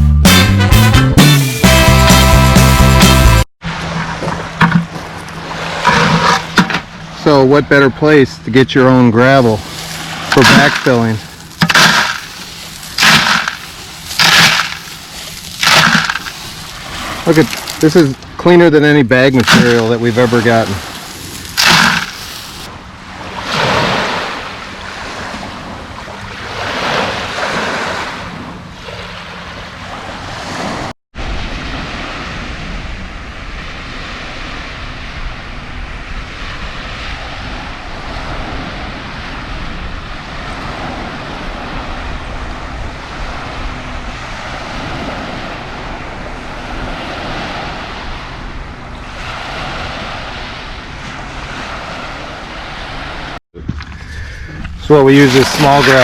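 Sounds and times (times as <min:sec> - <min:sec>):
lake waves washing on shore: 0:03.6 - 0:53.4, 0:54.0 - 0:56.0.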